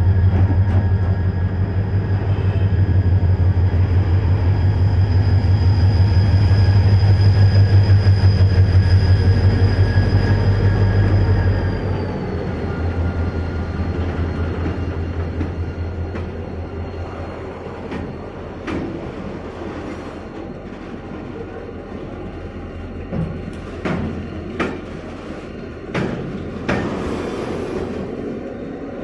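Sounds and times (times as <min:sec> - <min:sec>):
diesel locomotive drone: 0:00.0 - 0:29.0.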